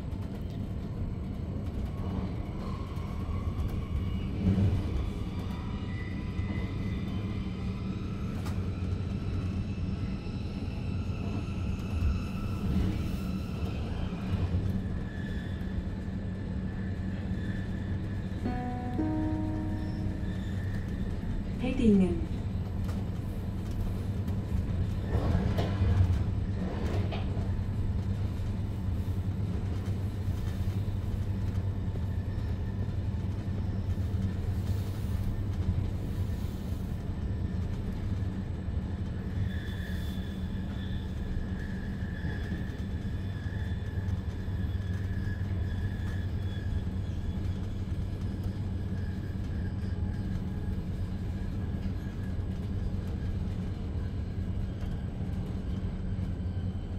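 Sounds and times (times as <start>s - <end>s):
train rumbling on track: 0.0s - 56.9s.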